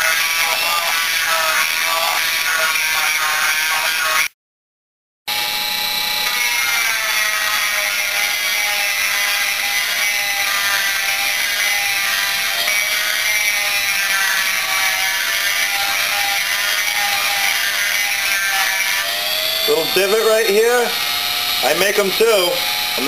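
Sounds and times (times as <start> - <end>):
rotary tool grinding metal: 0.0 - 4.3, 5.3 - 23.0.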